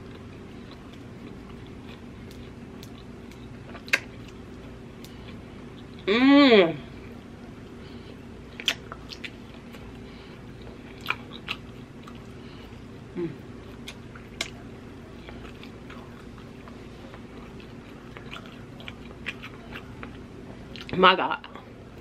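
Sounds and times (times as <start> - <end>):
person chewing with wet smacks: 0.0 - 6.1, 8.4 - 21.0.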